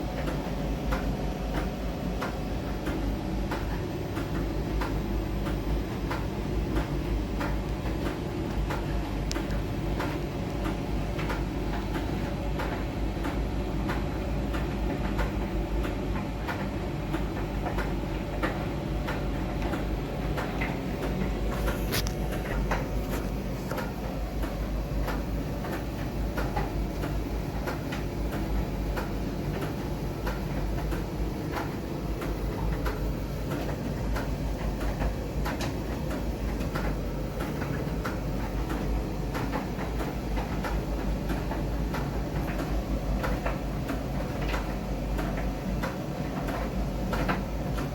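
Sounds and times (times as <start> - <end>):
washing machine drum hum and rumble: 0.0 - 47.9.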